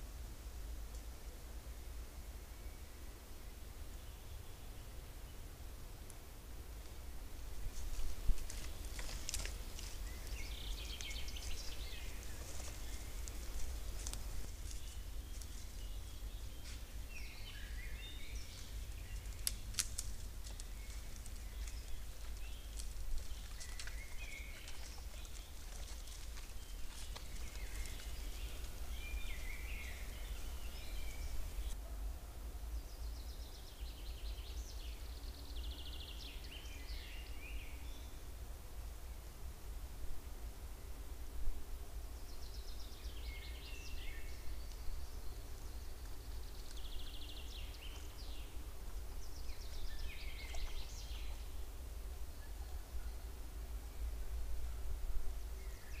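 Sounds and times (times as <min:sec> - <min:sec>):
steady low hum: 0:00.0 - 0:56.0
songbirds singing: 0:06.8 - 0:31.8, 0:32.6 - 0:38.4, 0:41.8 - 0:56.0.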